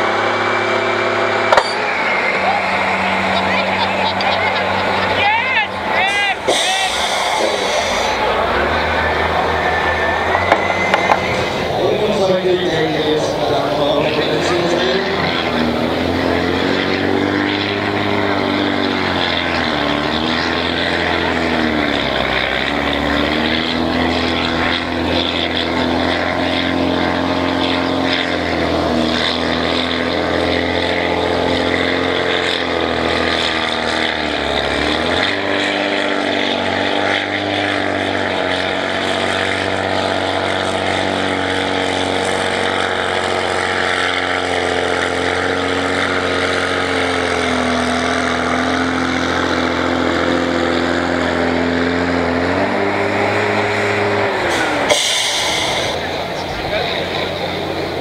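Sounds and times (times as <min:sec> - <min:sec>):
tractor diesel engine pulling hard: 0:00.0 - 0:58.0.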